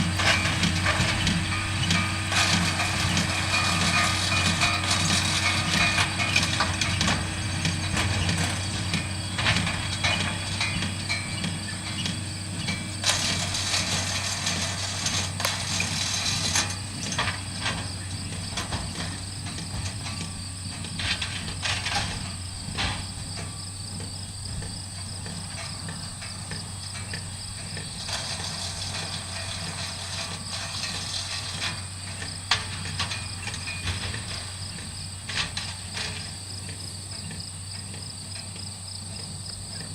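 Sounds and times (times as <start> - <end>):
hay baler mechanical clatter: 0.0 - 39.9
insects chirping: 0.0 - 39.9
tractor engine hum: 0.0 - 39.9.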